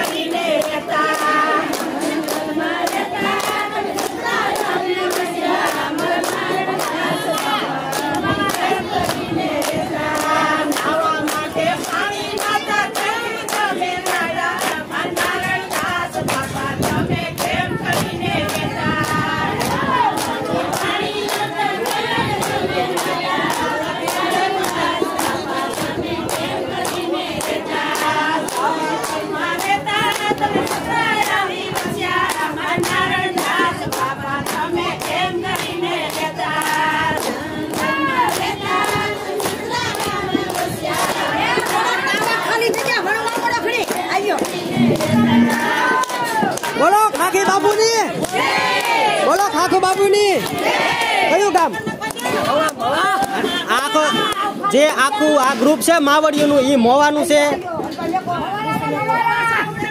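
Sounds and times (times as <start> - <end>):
women singing in unison: 0.0 - 55.6
hands clapping steady beat: 0.0 - 56.6.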